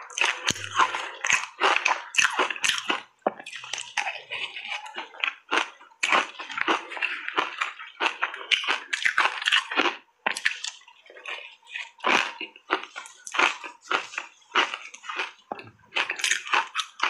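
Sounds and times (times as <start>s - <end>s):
crunching and chewing ice: 0.0s - 17.0s.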